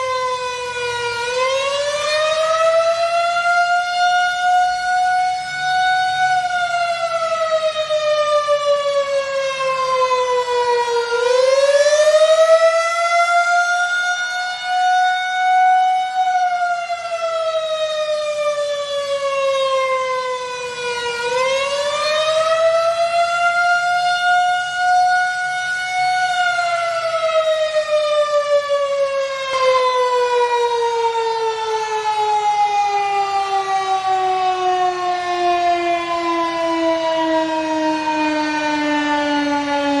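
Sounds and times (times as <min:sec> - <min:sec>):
tornado siren wailing: 0:00.0 - 0:40.0.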